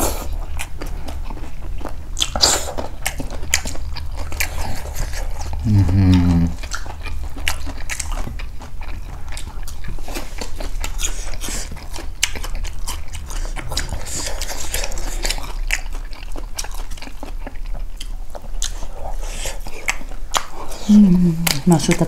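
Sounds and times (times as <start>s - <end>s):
chewing and biting meat: 0.0s - 22.0s
low steady hum: 0.0s - 22.0s.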